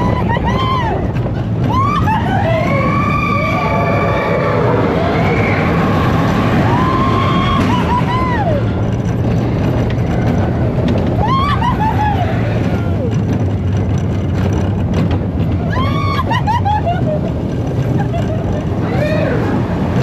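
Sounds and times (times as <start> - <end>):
roller coaster rumbling on track: 0.0 - 20.0.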